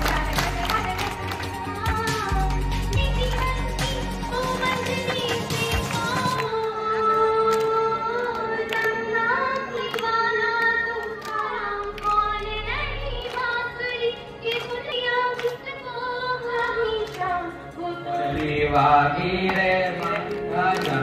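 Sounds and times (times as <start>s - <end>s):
girl singing through loudspeakers: 0.0s - 19.2s.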